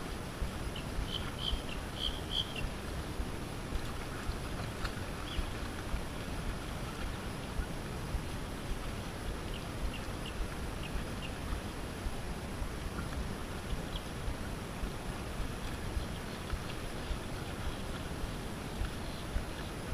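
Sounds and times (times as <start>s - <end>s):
water lapping and splashing: 0.0s - 19.9s
wind: 0.0s - 19.9s.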